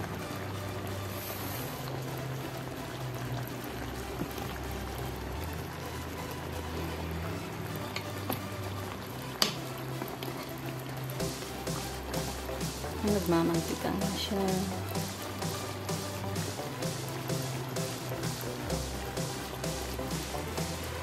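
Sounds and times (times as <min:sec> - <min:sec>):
sauce bubbling in a pan: 0:00.0 - 0:21.0.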